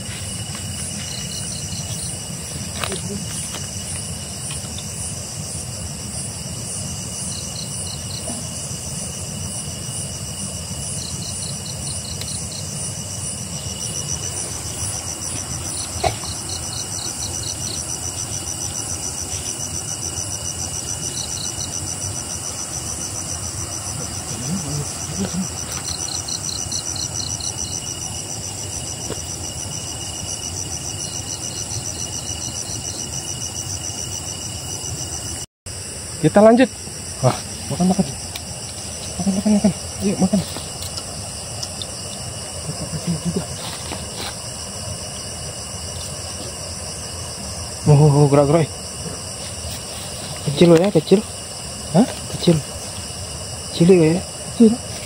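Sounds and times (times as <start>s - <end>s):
crickets chirping and trilling: 0.0s - 55.0s.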